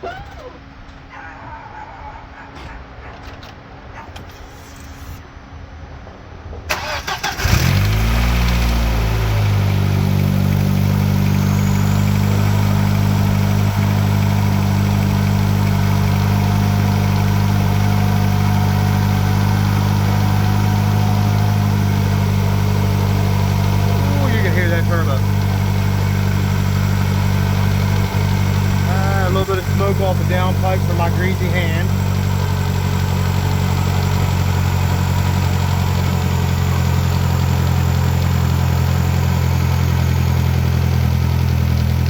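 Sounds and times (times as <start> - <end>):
car engine starting and idling: 6.5 - 42.0.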